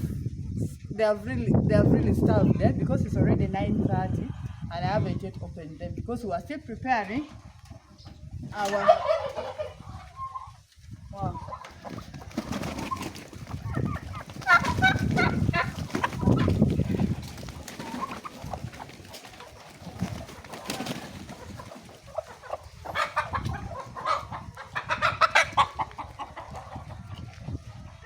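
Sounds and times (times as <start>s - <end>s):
chickens clucking and squawking: 1.7s - 28.0s.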